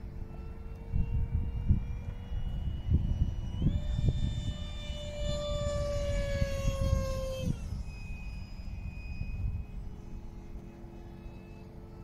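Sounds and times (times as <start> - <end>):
wind rumbling on microphone: 0.0 - 11.2
electric jet fan whining: 0.0 - 12.0.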